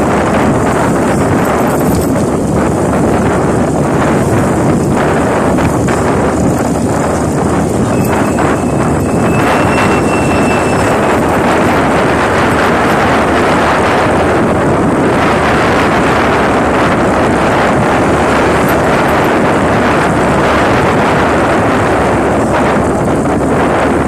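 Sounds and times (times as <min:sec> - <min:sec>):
motorcycle running: 0:00.0 - 0:24.0
wind buffeting microphone: 0:00.0 - 0:24.0.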